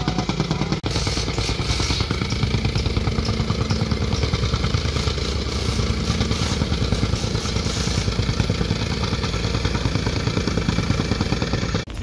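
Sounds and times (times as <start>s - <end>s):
plate compactor chugging: 0.0s - 12.0s
tamping rammer pounding: 0.0s - 12.0s.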